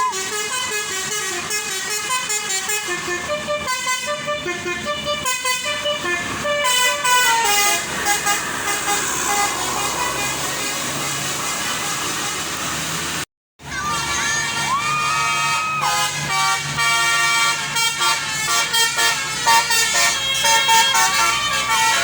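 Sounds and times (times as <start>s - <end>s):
musical air horn tune: 0.0s - 12.6s, 14.0s - 22.0s.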